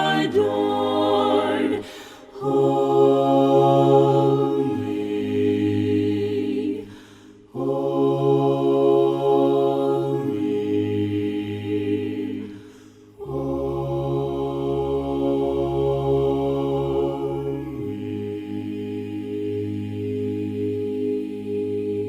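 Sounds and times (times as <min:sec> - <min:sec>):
group singing a cappella: 0:00.0 - 0:22.0.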